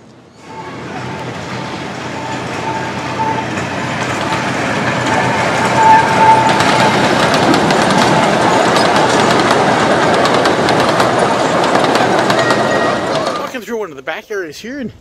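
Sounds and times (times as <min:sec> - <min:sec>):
small ride train passing: 0:00.0 - 0:13.8
wheels clicking over rail joints: 0:01.1 - 0:13.5.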